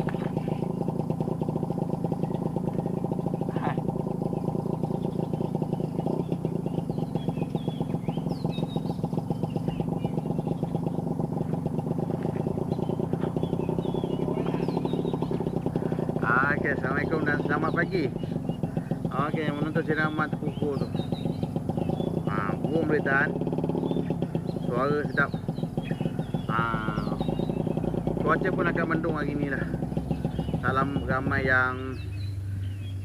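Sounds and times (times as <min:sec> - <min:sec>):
small engine running: 0:00.0 - 0:33.0
faint high bird chirps: 0:02.2 - 0:29.1, 0:30.0 - 0:33.0.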